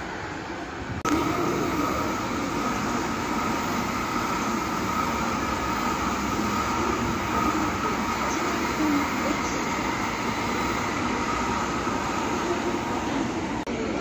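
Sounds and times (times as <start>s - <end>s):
bullet train rushing past: 0.0s - 14.0s
high whine: 1.0s - 14.0s.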